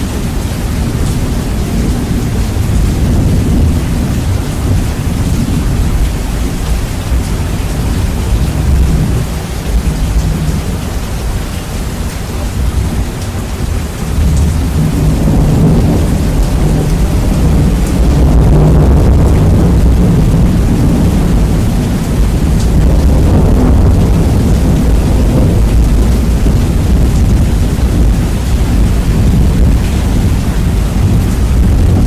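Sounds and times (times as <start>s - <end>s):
deep rumble of thunder: 0.0s - 32.0s
heavy rain: 0.0s - 32.0s.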